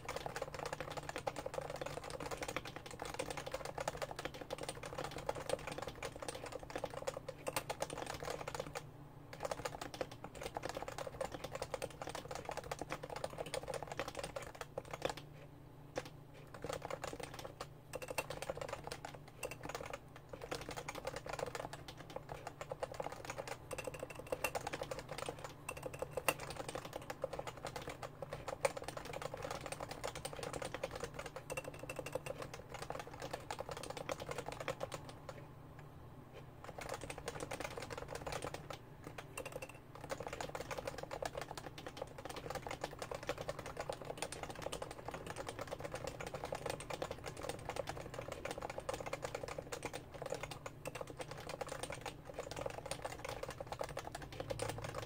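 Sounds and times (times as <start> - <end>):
keyboard typing: 0.0 - 35.9, 36.6 - 55.0.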